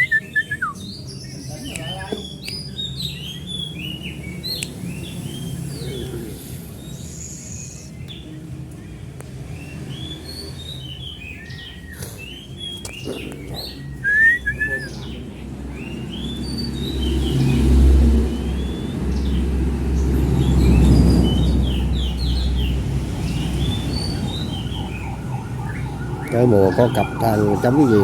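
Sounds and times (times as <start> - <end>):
young birds chirping: 0.0 - 28.0.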